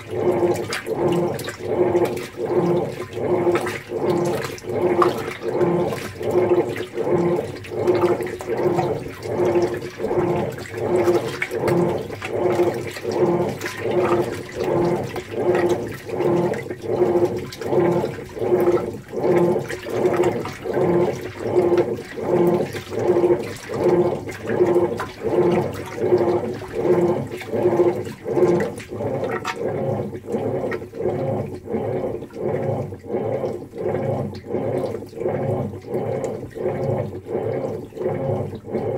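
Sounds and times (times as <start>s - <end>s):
washing machine motor hum: 0.0s - 38.9s
water and clothes sloshing: 0.0s - 38.9s.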